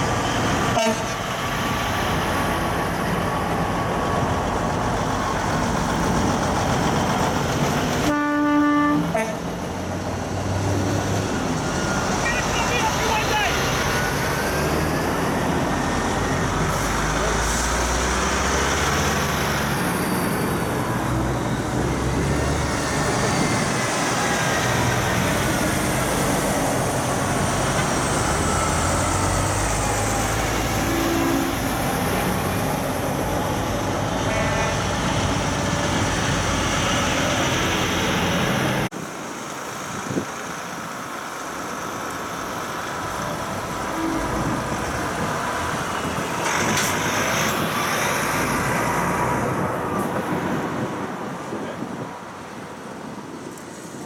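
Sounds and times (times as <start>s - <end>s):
heavy trucks driving past: 0.0s - 54.0s
tyres on the road: 0.0s - 54.0s.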